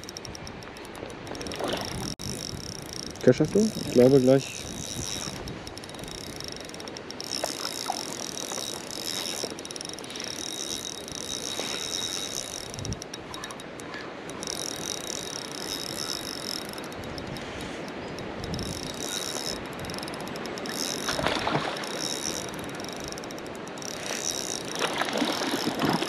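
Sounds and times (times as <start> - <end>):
fishing reel whirring: 0.0 - 26.0.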